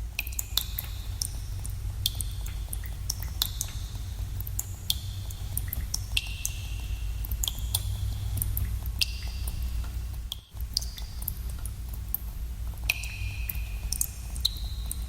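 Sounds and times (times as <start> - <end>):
water drops plinking in pools: 0.1 - 15.0.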